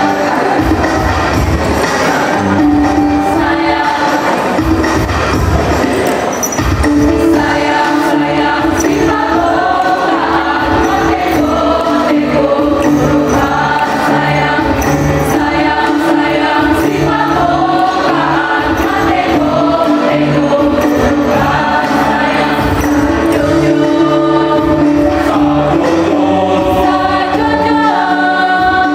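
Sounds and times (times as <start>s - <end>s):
children's choir singing: 0.0s - 28.9s.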